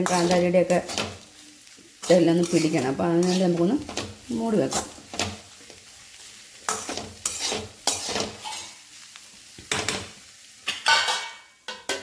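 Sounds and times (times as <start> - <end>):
spatula scraping a pan: 0.0 - 5.9, 6.6 - 8.9, 9.6 - 12.0
faint frying sizzle: 0.0 - 12.0.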